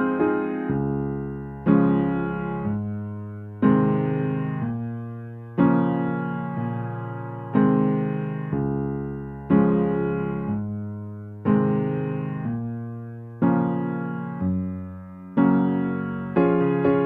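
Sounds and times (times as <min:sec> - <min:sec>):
soft piano-like chords: 0:00.0 - 0:17.0.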